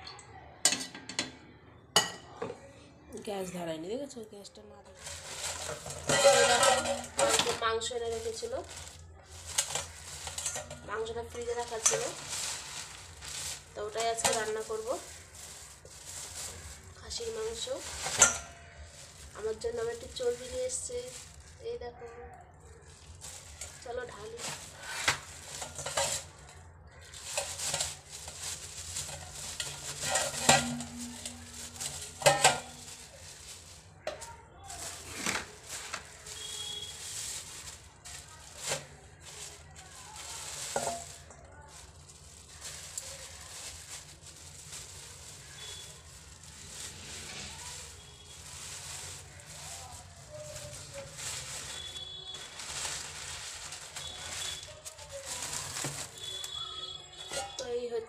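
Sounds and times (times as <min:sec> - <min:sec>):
plastic bag crinkling: 0:03.8 - 0:58.0.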